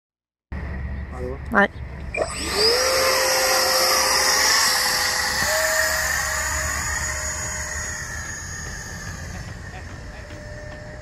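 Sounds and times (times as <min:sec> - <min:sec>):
electric ducted fan whine: 0:00.6 - 0:11.0.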